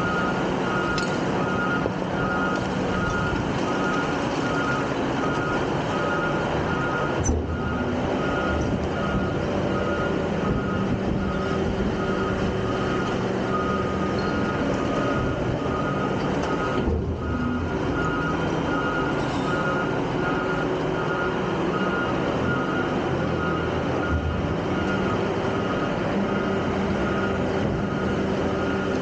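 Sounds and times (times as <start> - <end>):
backup alarm beeping: 0.0 - 28.9
garbage truck engine running: 0.0 - 29.0.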